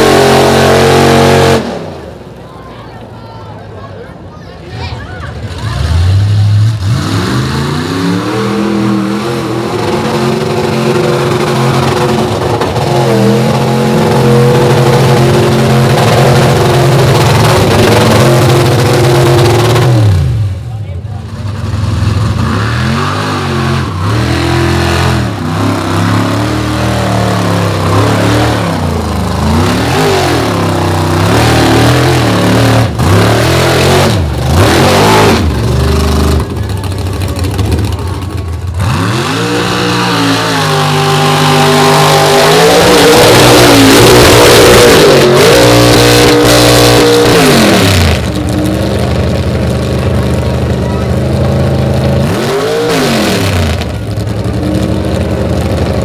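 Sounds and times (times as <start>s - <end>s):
truck engines revving: 0.0s - 56.0s.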